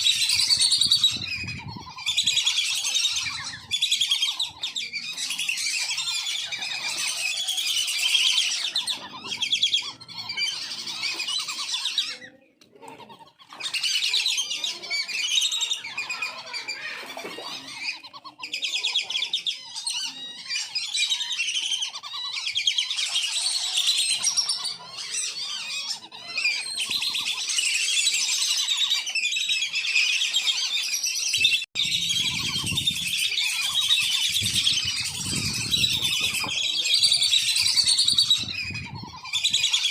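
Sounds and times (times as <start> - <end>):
ducks whistling calls: 0.0 - 39.9.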